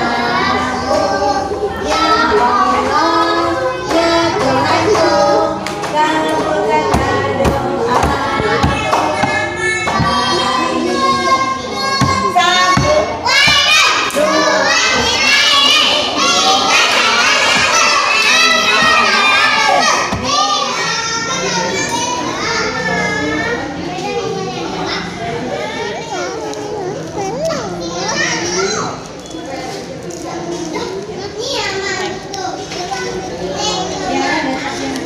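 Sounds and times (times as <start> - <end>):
children and woman singing: 0.0 - 28.4.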